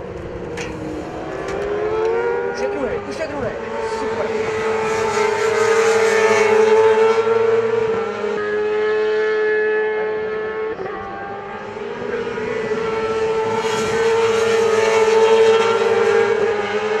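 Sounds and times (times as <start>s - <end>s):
racing motorcycles at high revs: 0.2s - 17.0s.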